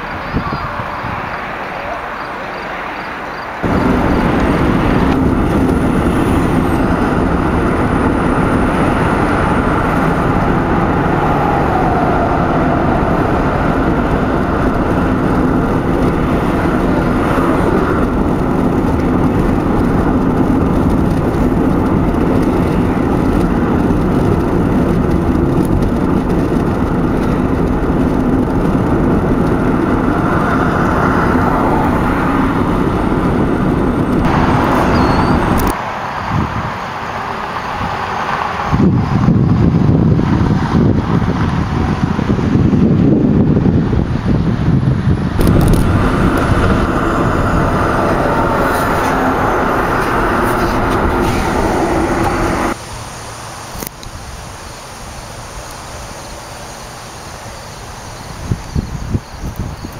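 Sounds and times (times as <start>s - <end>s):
tyre noise on pavement: 0.0s - 36.8s, 37.4s - 52.9s
low engine hum: 3.6s - 59.9s.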